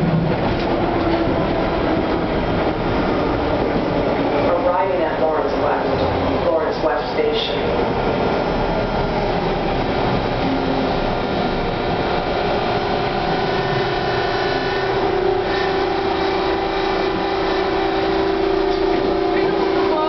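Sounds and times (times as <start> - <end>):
subway car rumble on rails: 0.0 - 20.0.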